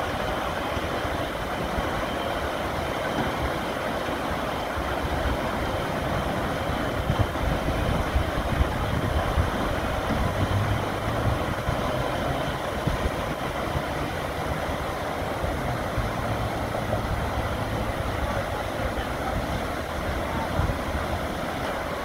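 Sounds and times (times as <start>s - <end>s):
river water rushing under dam gate: 0.0s - 22.0s.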